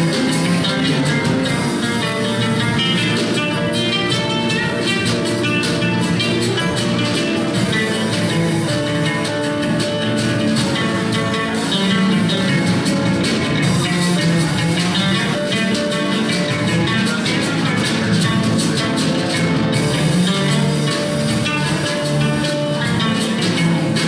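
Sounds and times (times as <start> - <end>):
drum kit with cymbal strokes: 0.0 - 24.0
plucked oud: 0.0 - 24.0
upright double bass: 0.0 - 24.0.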